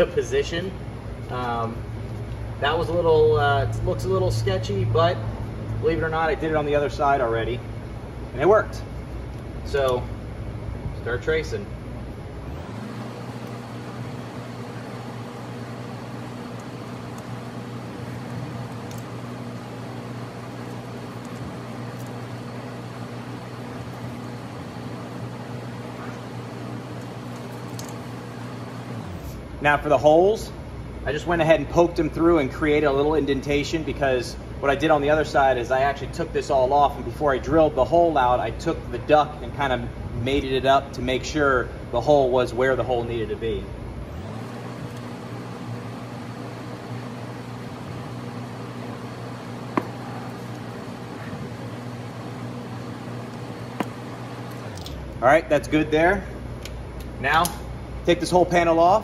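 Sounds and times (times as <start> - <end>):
machine humming: 0.0 - 59.0.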